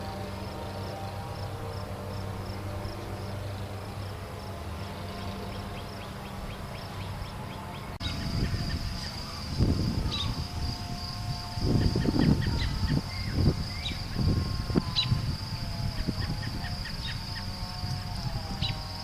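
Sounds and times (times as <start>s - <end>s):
high insect-like hum: 0.0s - 19.0s
wind buffeting microphone: 0.0s - 19.0s.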